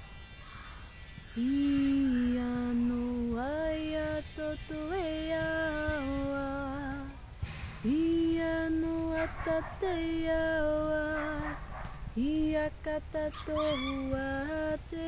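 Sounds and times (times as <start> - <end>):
woman singing held notes: 1.4 - 7.2, 7.8 - 15.0.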